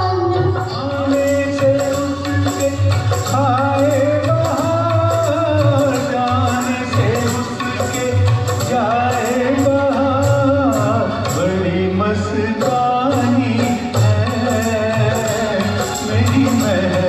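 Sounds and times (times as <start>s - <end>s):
film song music with melody and beat: 0.0s - 17.0s.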